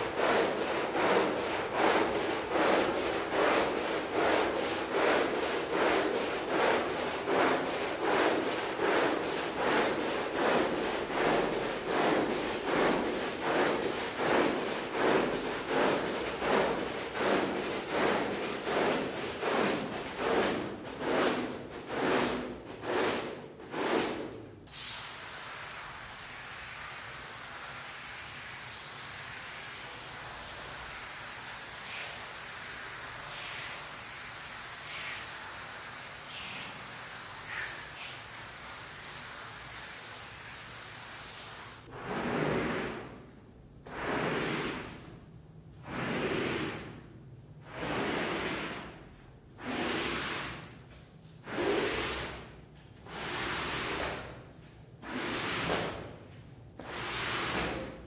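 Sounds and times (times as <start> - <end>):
brush scrubbing a rug: 0.0 - 24.4, 29.6 - 43.3, 43.9 - 45.1, 45.8 - 47.0, 47.6 - 50.7, 51.4 - 56.1, 56.8 - 58.0.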